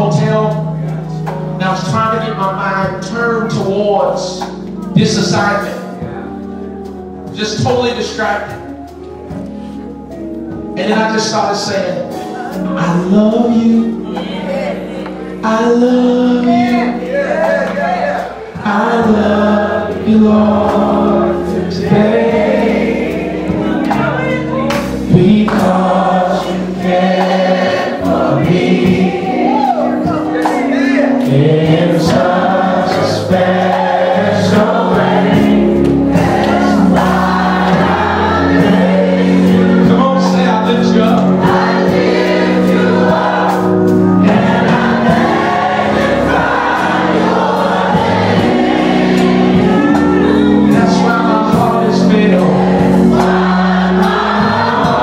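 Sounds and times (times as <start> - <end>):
band accompaniment: 0.0 - 55.0
gospel choir singing: 0.0 - 55.0.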